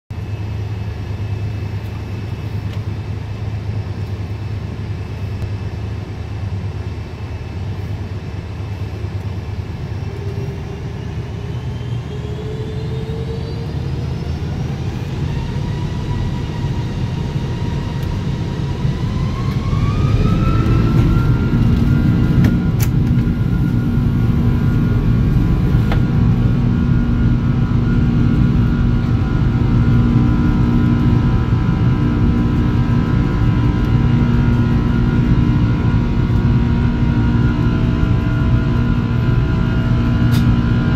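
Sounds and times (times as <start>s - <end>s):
jet engines heard inside cabin: 0.1s - 40.9s.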